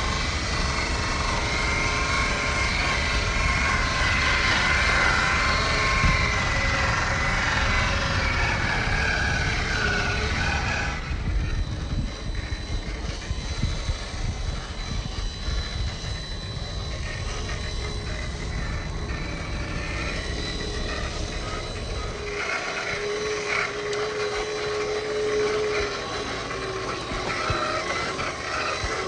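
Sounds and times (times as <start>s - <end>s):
electric motor whining: 0.0s - 29.0s.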